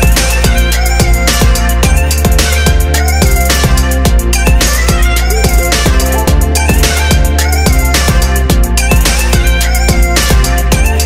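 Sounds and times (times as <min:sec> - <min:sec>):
electronic music with driving beat: 0:00.0 - 0:11.0.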